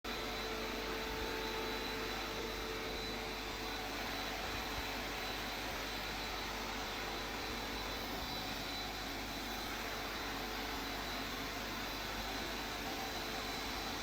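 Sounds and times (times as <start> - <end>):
vacuum cleaner running: 0.1 - 14.0.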